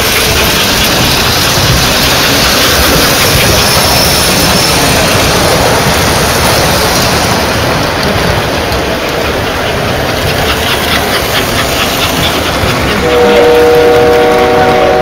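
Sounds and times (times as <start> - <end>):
model trains rumbling and whirring: 0.0 - 15.0.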